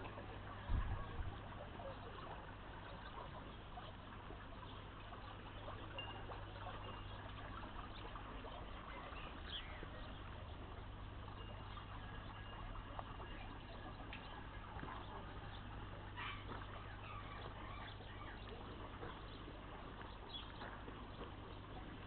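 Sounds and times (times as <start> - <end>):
water feature trickling: 0.0 - 22.0.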